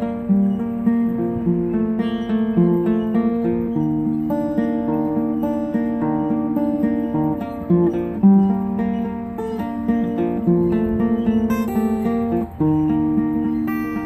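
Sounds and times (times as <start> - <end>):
acoustic guitar picking and strumming: 0.0 - 14.0.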